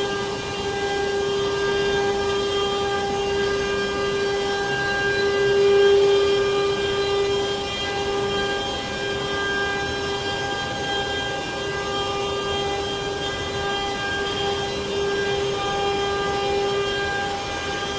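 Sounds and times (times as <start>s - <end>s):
router spindle whining: 0.0s - 17.9s.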